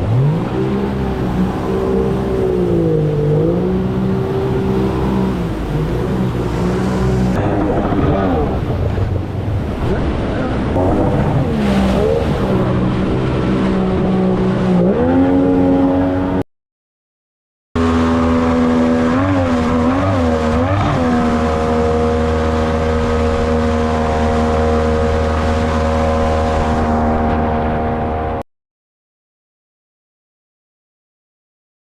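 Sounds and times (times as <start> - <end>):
jet boat motor running: 0.0 - 16.4, 17.8 - 28.4.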